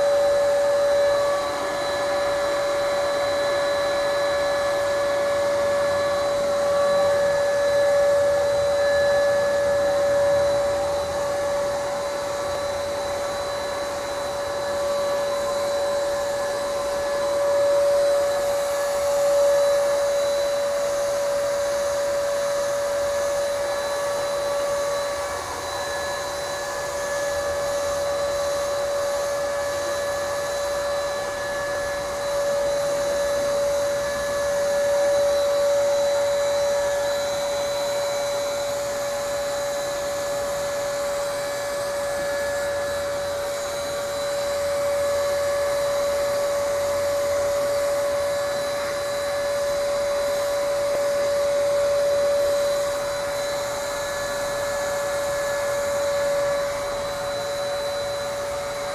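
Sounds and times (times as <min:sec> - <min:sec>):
high-pitched motor hum: 0:00.0 - 0:58.9.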